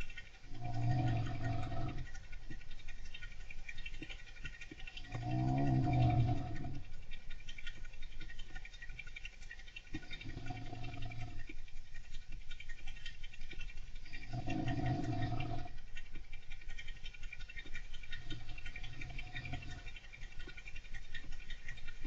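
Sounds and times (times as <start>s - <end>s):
hamster scratching and clicking: 0.0s - 22.0s.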